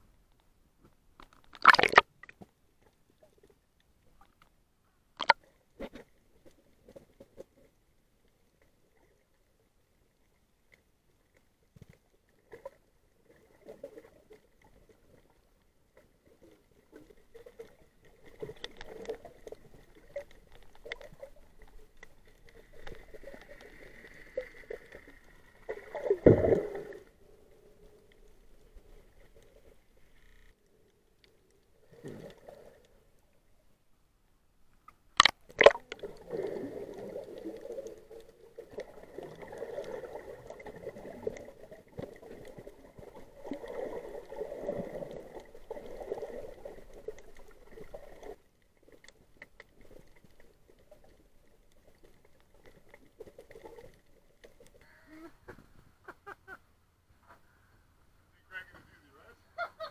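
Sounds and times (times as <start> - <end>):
underwater bubbling and crackling: 0.0 - 33.8, 34.6 - 55.9.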